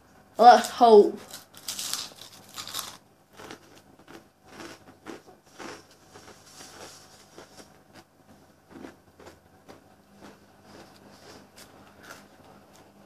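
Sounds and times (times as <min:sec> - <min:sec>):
breadstick crunching chews: 0:01.2 - 0:13.0.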